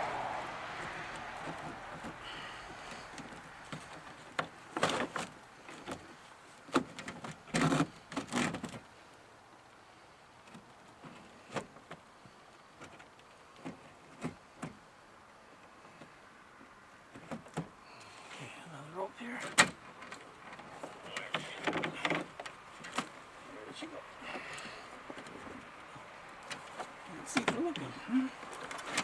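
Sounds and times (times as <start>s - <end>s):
rope handling rustles and knocks: 0.0s - 9.1s, 10.4s - 16.2s, 19.2s - 29.0s.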